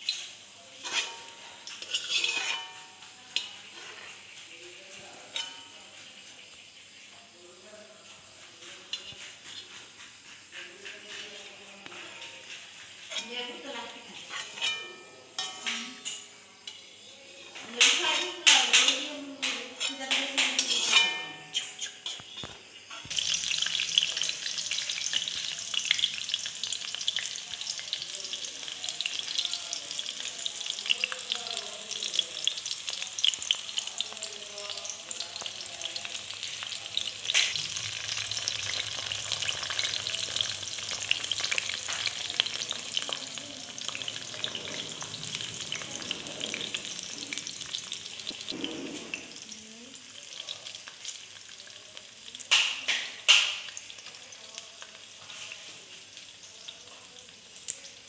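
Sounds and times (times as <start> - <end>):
shallots sizzling and crackling in oil: 0.0 - 58.0.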